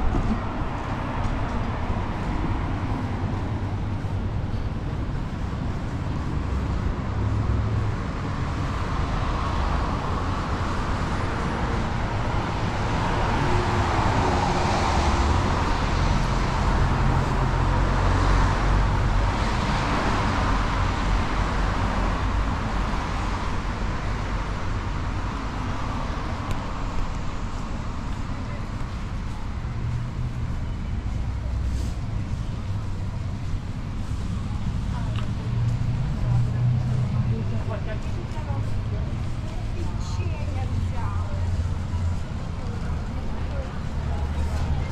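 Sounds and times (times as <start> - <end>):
traffic engine rumble: 0.0 - 44.9.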